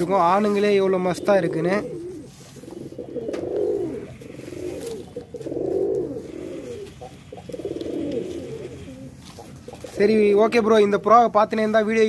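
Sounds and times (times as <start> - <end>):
pigeon cooing: 0.0 - 10.7.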